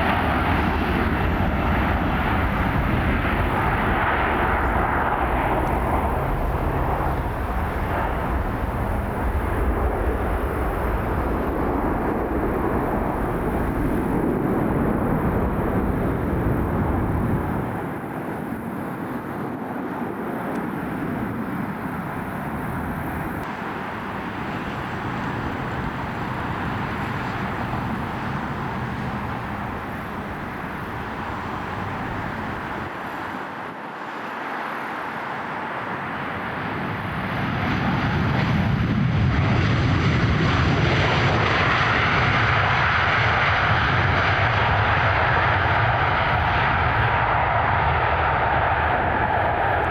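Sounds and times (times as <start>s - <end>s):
airliner jet engines rumbling: 0.0s - 49.9s
quieter jet engine rush: 0.0s - 49.9s.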